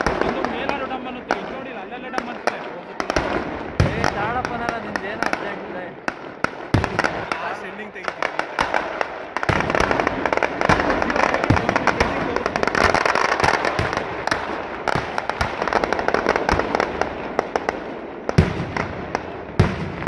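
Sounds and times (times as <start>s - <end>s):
firecrackers crackling: 0.0s - 20.0s
loud firecracker bangs: 0.0s - 20.0s.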